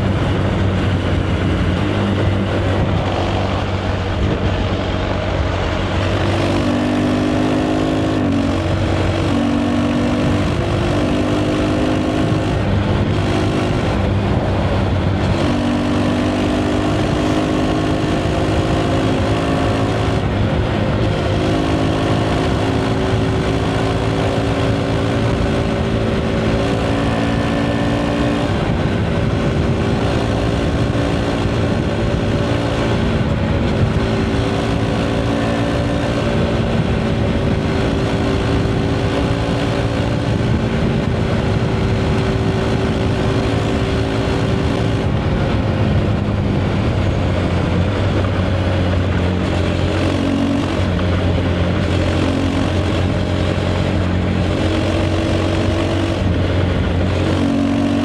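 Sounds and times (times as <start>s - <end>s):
motorcycle engine running: 0.0s - 58.0s
wind and road rush: 0.0s - 58.0s.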